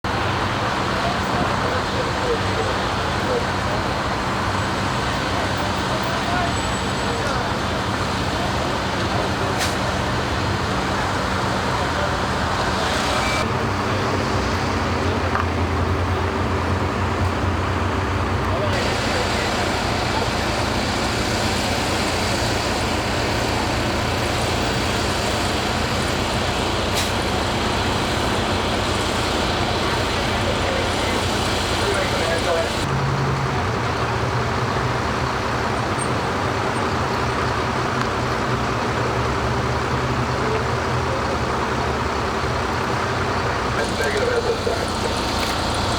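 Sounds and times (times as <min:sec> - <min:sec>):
roadway traffic noise: 0:00.0 - 0:45.9
low engine hum: 0:00.1 - 0:45.9.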